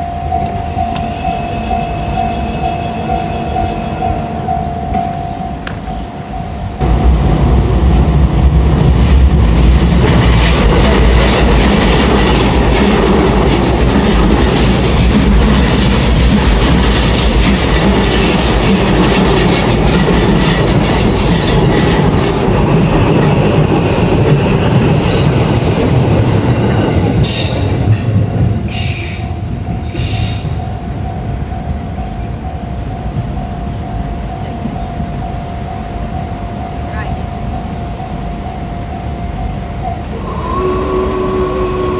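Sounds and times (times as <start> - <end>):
crossing warning bell ringing: 0.0 - 8.5, 9.8 - 25.7, 26.4 - 41.9
train wheels rumbling on rail: 0.0 - 41.9.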